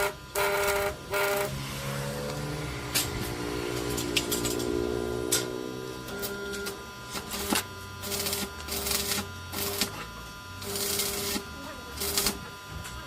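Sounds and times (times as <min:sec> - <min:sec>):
machine motor hum: 0:00.0 - 0:13.0.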